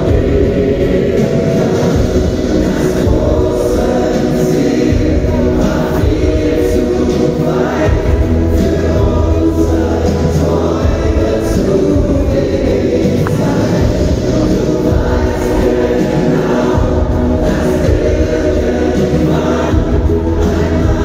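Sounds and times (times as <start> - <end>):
live pop band: 0.0 - 21.0
men singing together: 0.0 - 21.0.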